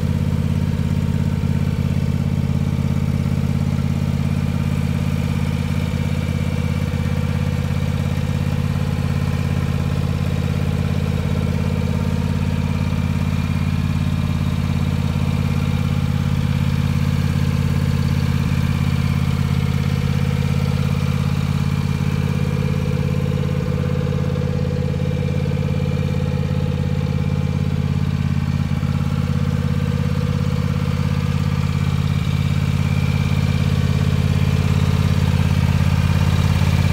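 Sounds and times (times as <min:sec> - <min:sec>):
garden tractor engine running: 0:00.0 - 0:36.9.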